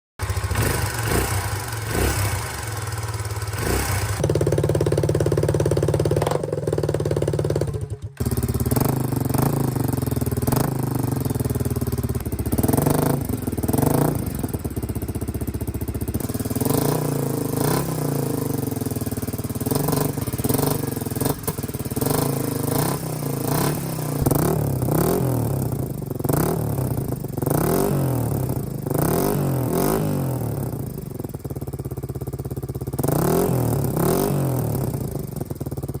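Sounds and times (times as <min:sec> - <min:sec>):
motorcycle engine revving: 0:00.2 - 0:36.0.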